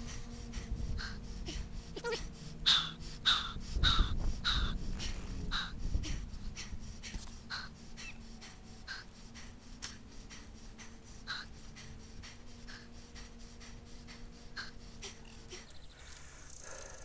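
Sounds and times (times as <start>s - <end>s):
faint steady hum: 0.0s - 17.0s
person breathing heavily: 0.0s - 17.0s.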